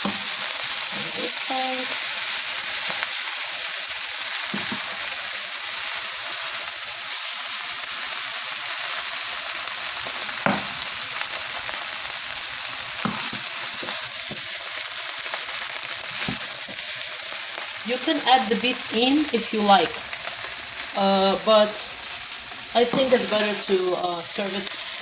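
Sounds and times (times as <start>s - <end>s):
rice sizzling in oil: 0.0s - 25.0s.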